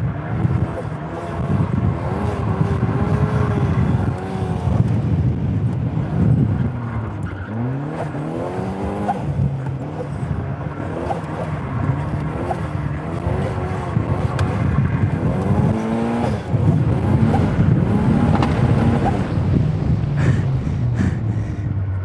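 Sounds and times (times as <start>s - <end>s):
turbocharged car engine revving: 0.0s - 22.0s.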